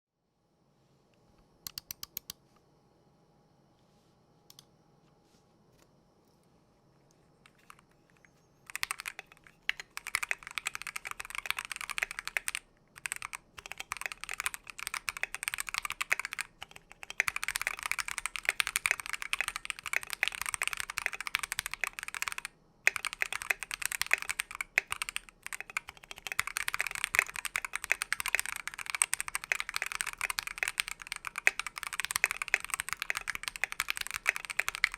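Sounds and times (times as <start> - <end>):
mechanical keyboard typing: 1.7 - 2.4, 7.5 - 34.9.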